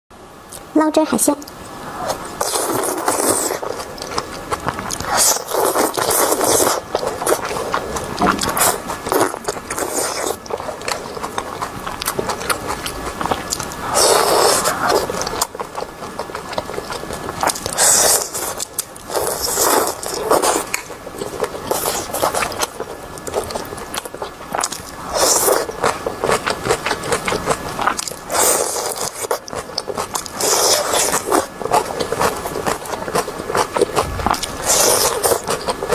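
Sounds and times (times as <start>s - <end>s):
chewing seafood close up: 1.4s - 35.9s.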